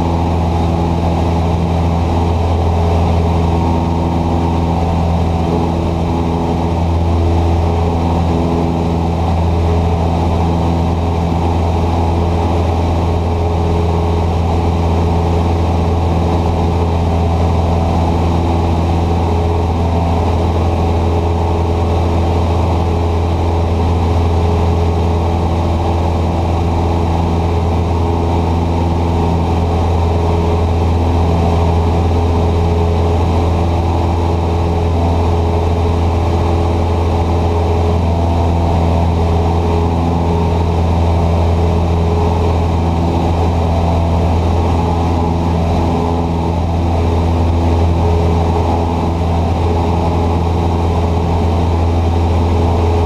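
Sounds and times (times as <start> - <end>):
small plane engine droning: 0.0 - 53.0.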